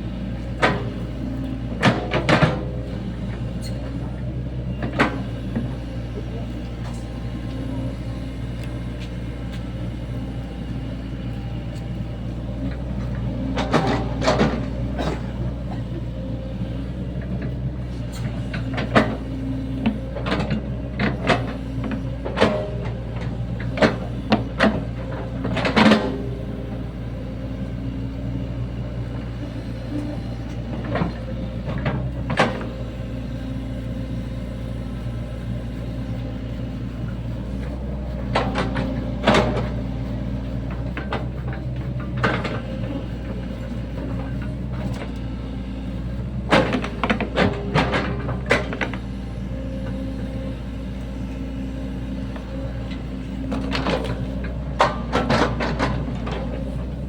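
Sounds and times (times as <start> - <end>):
excavator diesel engine running: 0.0 - 57.0
excavator bucket knocks and clanks: 0.4 - 8.5, 9.1 - 33.4, 37.0 - 45.4, 46.0 - 51.0, 51.6 - 57.0.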